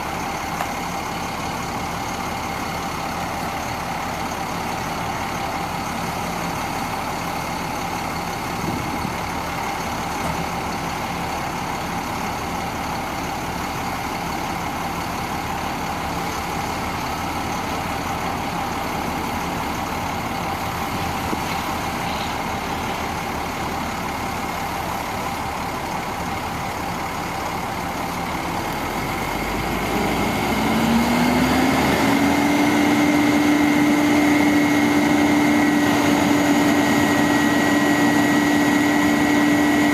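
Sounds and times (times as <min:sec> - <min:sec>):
diesel truck engine idling: 0:00.0 - 0:39.9
engine whine: 0:00.0 - 0:39.9.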